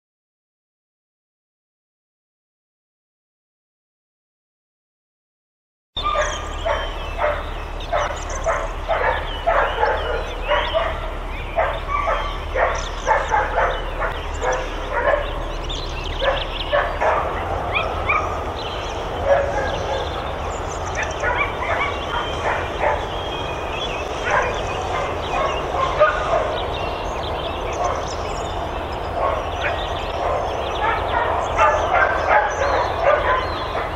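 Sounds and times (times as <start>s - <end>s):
many dogs barking: 6.0s - 33.9s
steady low rumble: 6.0s - 33.9s.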